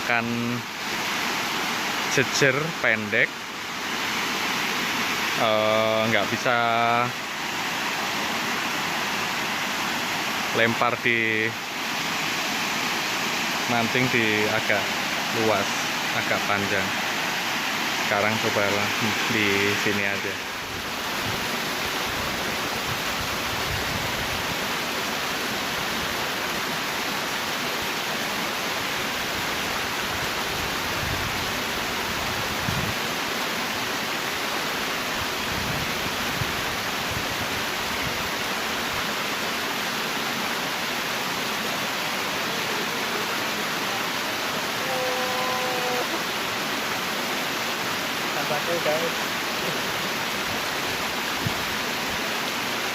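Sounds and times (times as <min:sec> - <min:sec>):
river water rushing: 0:00.0 - 0:52.9.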